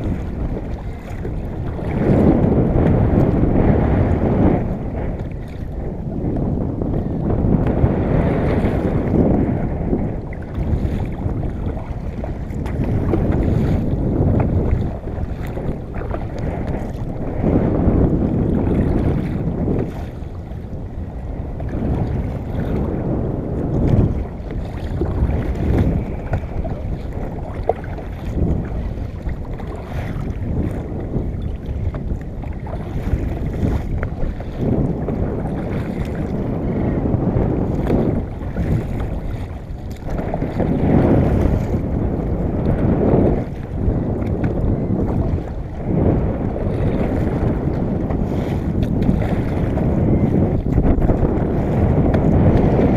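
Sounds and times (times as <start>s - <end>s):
water moving against kayak: 0.0s - 52.9s
wind buffeting microphone: 0.0s - 52.9s.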